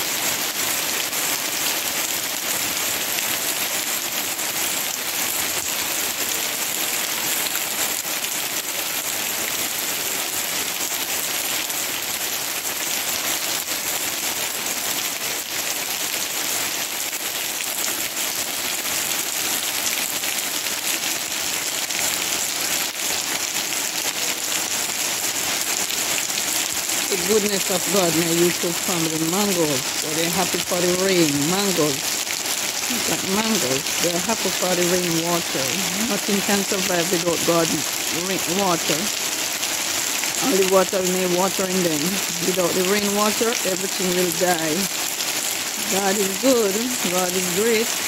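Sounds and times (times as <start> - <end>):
rain falling on leaves: 0.0 - 48.0.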